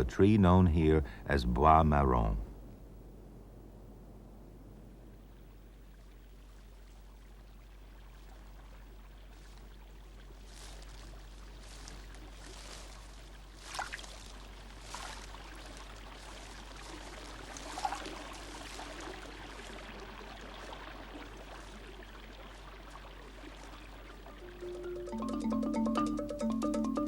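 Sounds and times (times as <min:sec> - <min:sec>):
stream trickling: 0:05.0 - 0:27.0.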